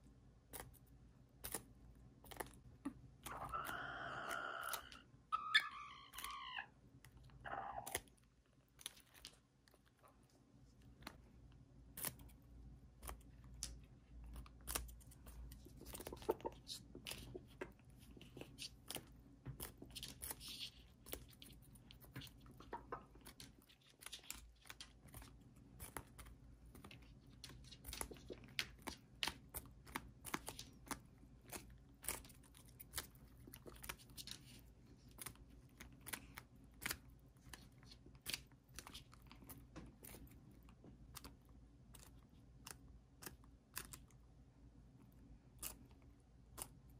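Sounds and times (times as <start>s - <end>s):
beaks pecking and tearing leaves: 0.4s - 46.9s.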